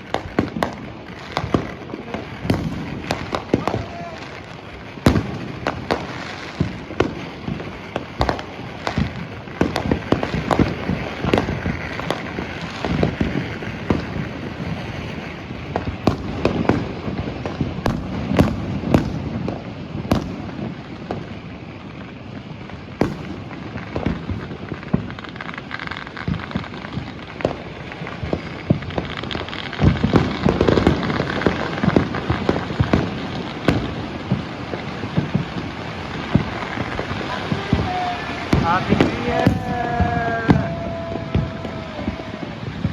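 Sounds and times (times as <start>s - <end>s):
firecrackers crackling: 0.0s - 42.9s
fireworks bangs and booms: 0.0s - 42.9s.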